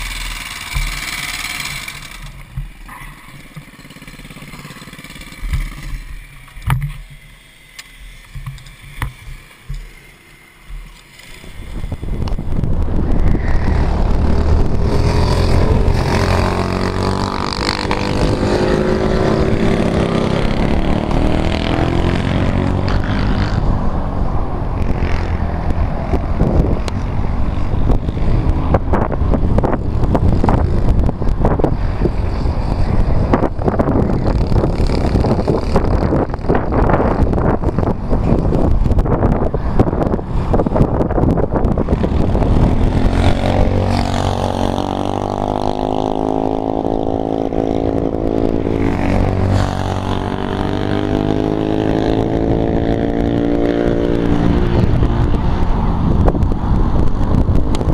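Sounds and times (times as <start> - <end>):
kart engine running hard: 0.0 - 6.6, 8.7 - 23.7, 26.1 - 57.9
wind noise on microphone: 0.0 - 57.9.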